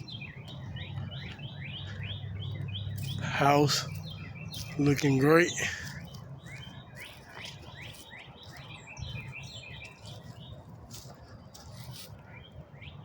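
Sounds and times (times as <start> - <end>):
faint outdoor rumble: 0.0 - 13.0
songbird chirping: 0.0 - 13.0.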